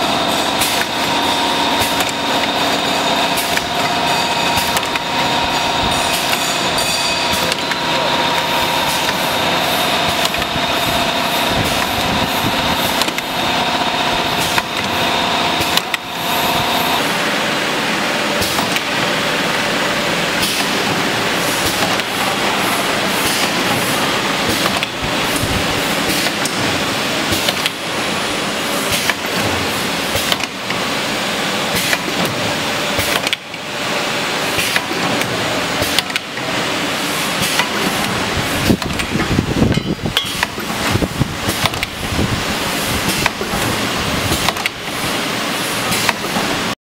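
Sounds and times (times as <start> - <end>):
filling machine running: 0.0 - 46.8
high steady whine: 0.0 - 46.8.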